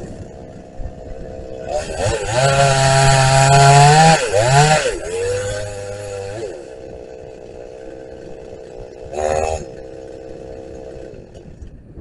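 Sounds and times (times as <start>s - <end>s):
chainsaw cutting wood: 0.0s - 11.8s
chainsaw idling and revving: 0.0s - 11.8s.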